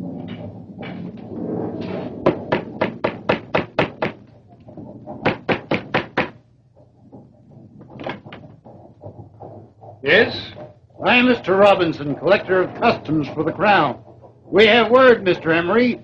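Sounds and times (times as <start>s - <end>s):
rapid knocking on door: 2.2s - 16.0s.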